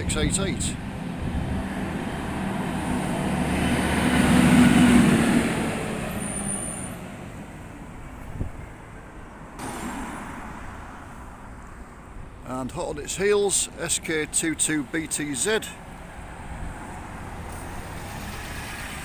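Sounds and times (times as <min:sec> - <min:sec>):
bus driving past: 0:00.2 - 0:12.7, 0:14.8 - 0:19.0.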